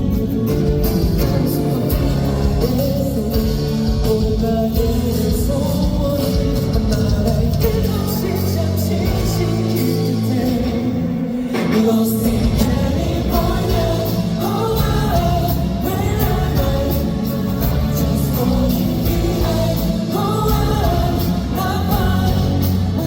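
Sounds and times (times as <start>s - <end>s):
live pop song with vocals and band: 0.0s - 23.0s.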